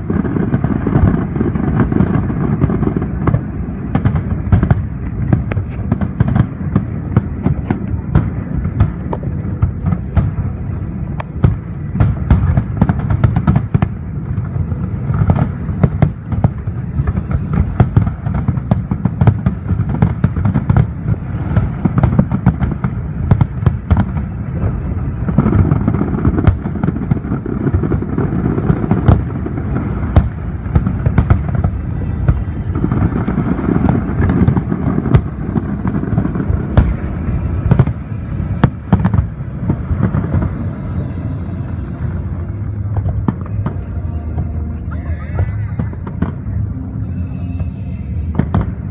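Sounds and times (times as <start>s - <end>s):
fireworks booming: 0.0s - 48.9s
fireworks crackling: 0.0s - 48.9s.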